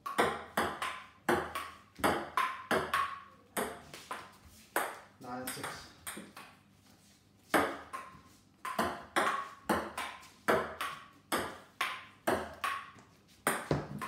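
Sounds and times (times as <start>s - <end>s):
paddles hitting ball: 0.0s - 6.6s, 7.5s - 14.0s
ping-pong ball bouncing on table: 0.0s - 6.6s, 7.5s - 14.0s.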